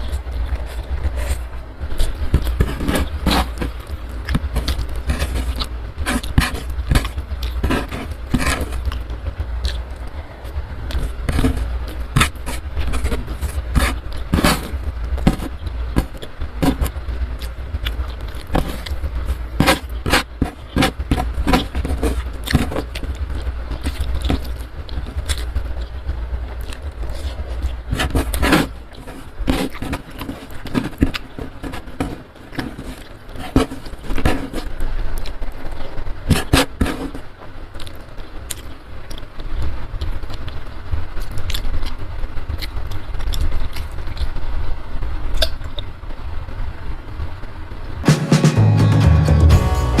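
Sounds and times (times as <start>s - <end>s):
wet chewing and mouth clicks: 0.0s - 44.4s, 45.4s - 45.9s
low steady hum: 0.0s - 50.0s.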